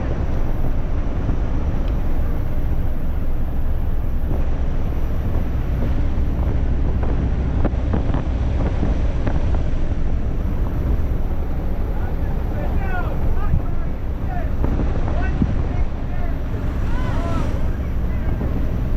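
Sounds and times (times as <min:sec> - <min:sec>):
aircraft engines rumbling: 0:00.0 - 0:18.9
rushing airflow: 0:00.0 - 0:18.9.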